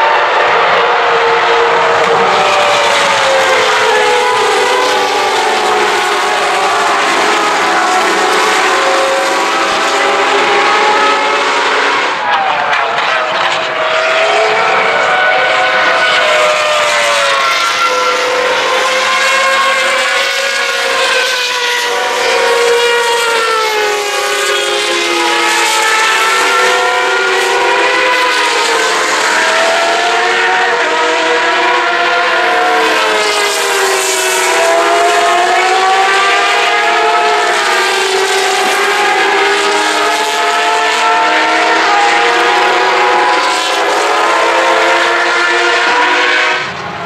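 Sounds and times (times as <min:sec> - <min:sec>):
racing car engines at high revs: 0:00.0 - 0:47.0.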